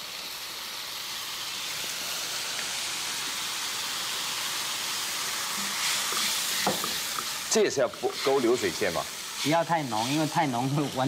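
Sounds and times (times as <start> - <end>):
sauce boiling and sizzling: 0.0 - 11.0.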